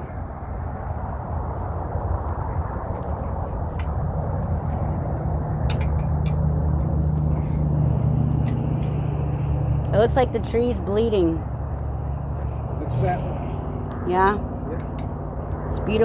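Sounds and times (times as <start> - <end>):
insects trilling: 0.0 - 16.0
low steady hum: 0.0 - 16.0.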